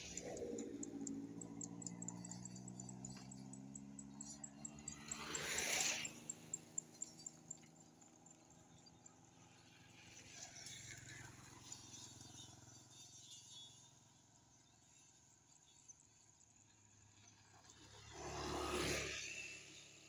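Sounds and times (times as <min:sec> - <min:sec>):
motor scooter passing: 0:00.0 - 0:13.8, 0:17.4 - 0:20.0.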